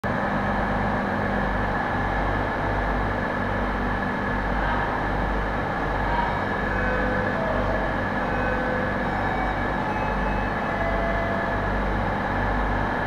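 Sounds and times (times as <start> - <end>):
train machinery hum: 0.0 - 13.0.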